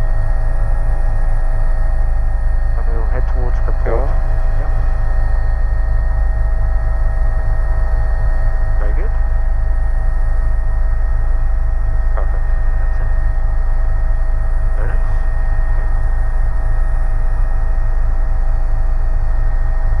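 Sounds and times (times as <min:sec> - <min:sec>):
engine and gearbox whine: 0:00.0 - 0:20.0
helicopter rotor drone: 0:00.0 - 0:20.0.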